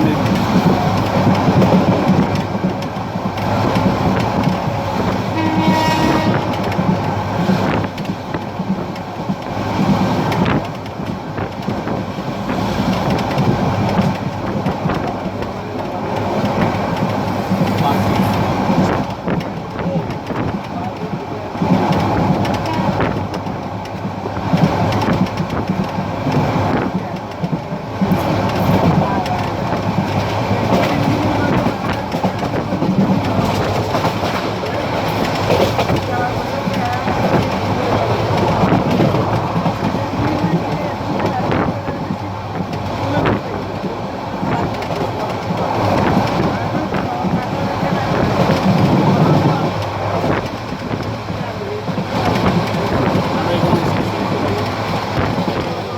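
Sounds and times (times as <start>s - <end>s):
train wheels rumbling on rails: 0.0s - 55.9s
wheels clacking over rail joints: 0.0s - 55.9s.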